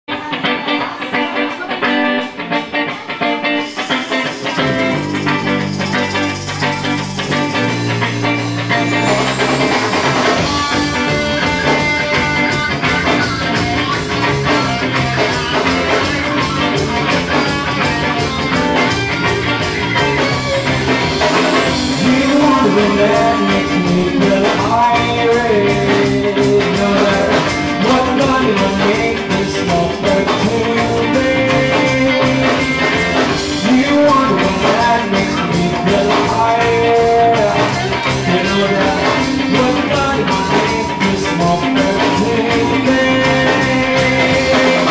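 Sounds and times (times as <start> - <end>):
rock band playing: 0.1 - 44.9.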